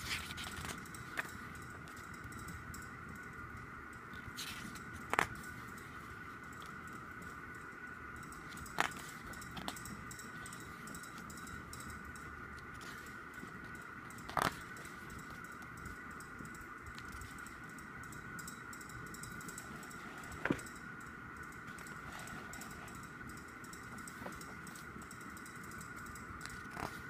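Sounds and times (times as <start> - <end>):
faint high whine: 0.0 - 27.0.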